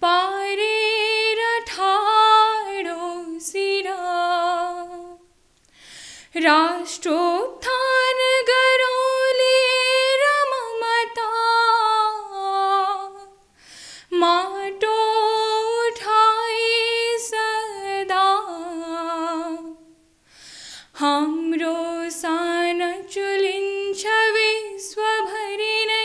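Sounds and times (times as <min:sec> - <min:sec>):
woman singing unaccompanied: 0:00.0 - 0:05.3, 0:06.3 - 0:13.5, 0:14.1 - 0:20.0, 0:20.9 - 0:26.0.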